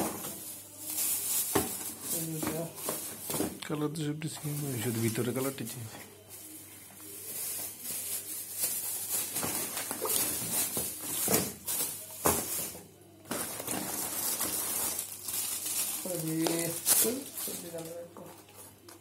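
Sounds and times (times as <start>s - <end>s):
plastic wrappers rustling: 0.0s - 19.0s.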